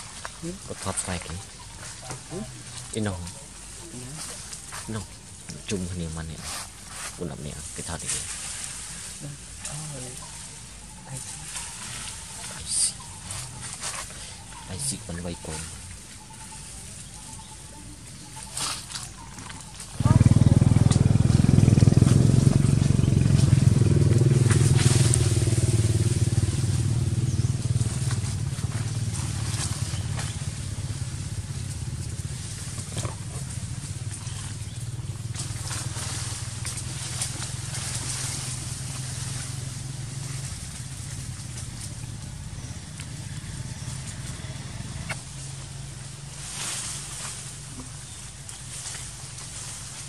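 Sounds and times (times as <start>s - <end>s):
motorcycle engine running: 0.0s - 50.0s
rustling: 0.0s - 50.0s.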